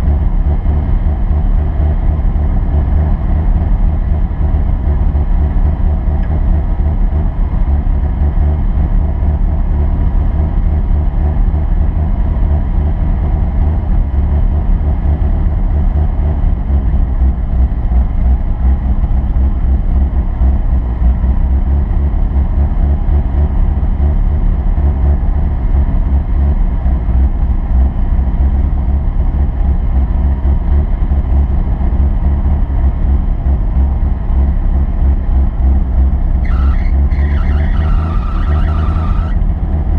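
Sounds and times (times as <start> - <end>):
off-road vehicle engine rumbling: 0.0 - 39.9.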